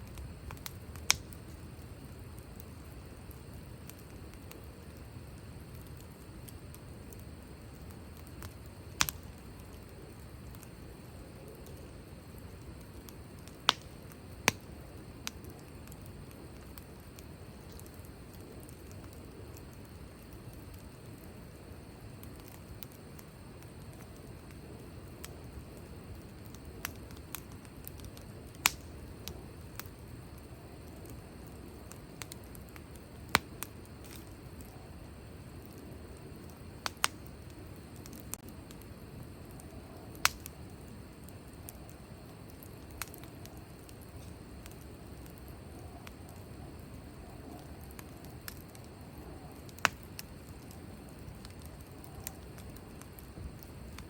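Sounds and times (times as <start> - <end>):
pops and crackles of burning wood: 0.0 - 54.0.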